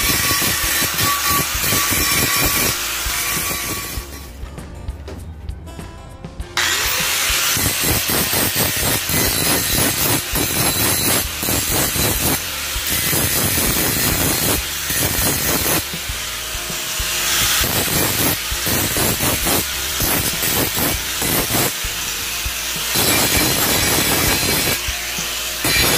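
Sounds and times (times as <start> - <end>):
angle grinder grinding metal: 0.0 - 4.4, 6.6 - 25.9.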